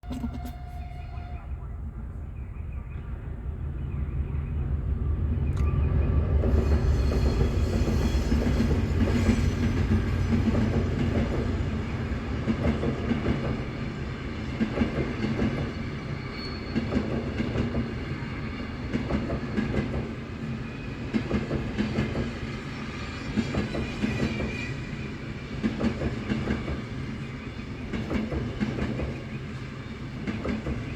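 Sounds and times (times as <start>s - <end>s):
heavy train rumble: 0.0s - 30.9s.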